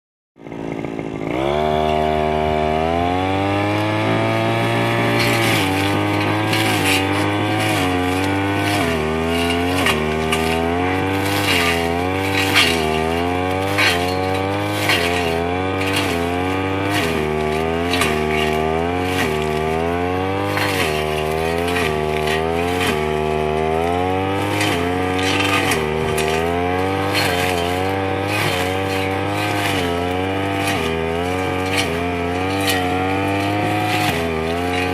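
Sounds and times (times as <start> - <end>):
brush cutter engine revving: 0.4 - 34.9
cutting line crackling through grass: 1.3 - 34.9.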